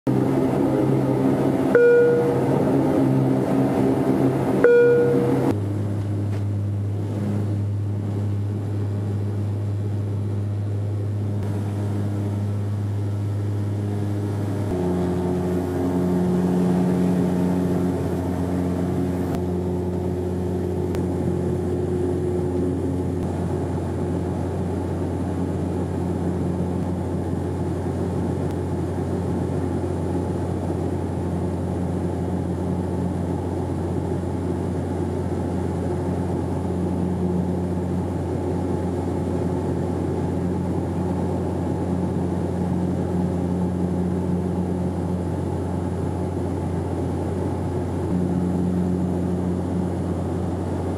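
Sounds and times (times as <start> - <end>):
airliner cabin propeller drone: 0.1 - 50.9.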